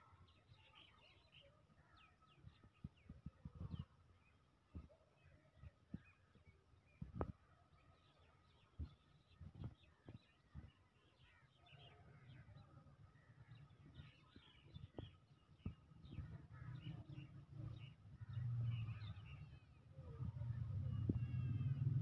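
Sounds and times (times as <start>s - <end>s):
birds chirping: 0.1s - 22.0s.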